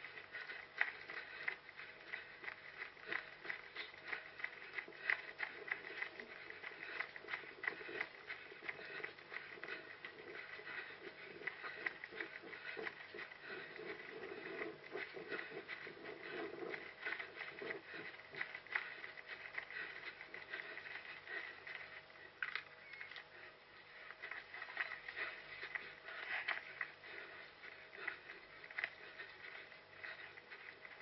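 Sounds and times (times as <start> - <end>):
runner's footfalls: 0.0 - 22.6, 23.2 - 31.0.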